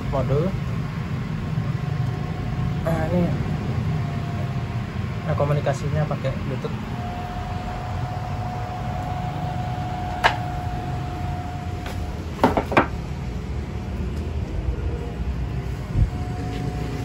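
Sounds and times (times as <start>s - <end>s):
faint high whine: 0.0s - 17.0s
low hum: 0.0s - 17.0s.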